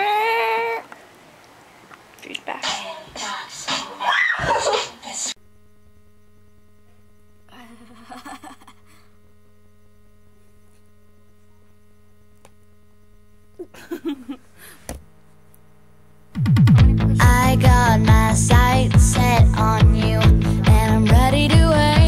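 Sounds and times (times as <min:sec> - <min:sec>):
low electrical hum: 0:00.0 - 0:02.6, 0:05.3 - 0:22.0.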